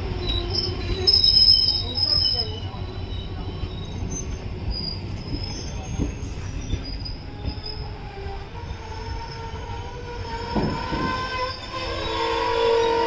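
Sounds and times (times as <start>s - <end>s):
train wheels rumbling on rail: 0.0s - 13.0s
high metallic brake squeals: 0.2s - 8.0s, 8.6s - 13.0s.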